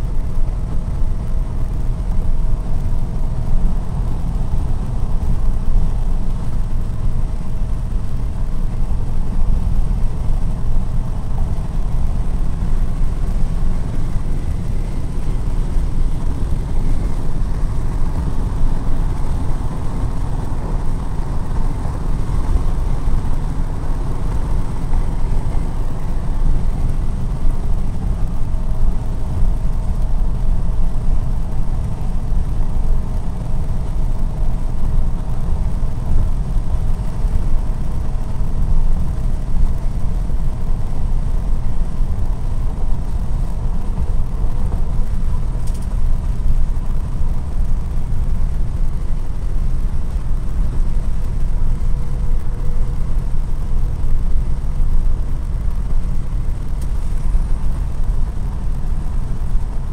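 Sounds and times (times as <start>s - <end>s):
car engine and road rumble: 0.0s - 59.9s
faint steady hum: 0.0s - 59.9s.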